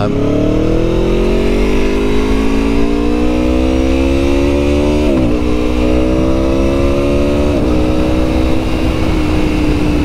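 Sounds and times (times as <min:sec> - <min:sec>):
low wind rumble: 0:00.0 - 0:10.0
motorcycle engine accelerating: 0:00.0 - 0:10.0.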